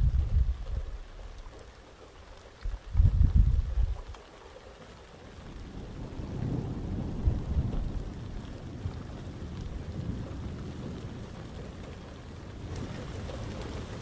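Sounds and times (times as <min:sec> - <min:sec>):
thunder rumbling: 0:00.0 - 0:01.6, 0:02.6 - 0:04.2, 0:05.4 - 0:14.0
steady rain: 0:00.0 - 0:14.0.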